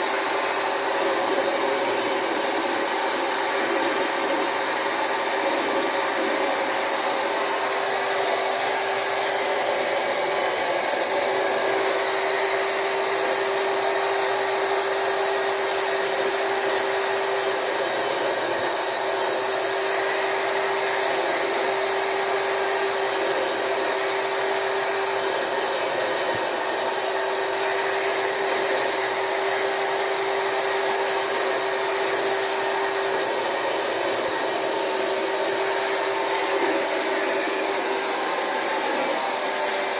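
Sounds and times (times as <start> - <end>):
carpet extractor vacuum whine: 0.0 - 39.9.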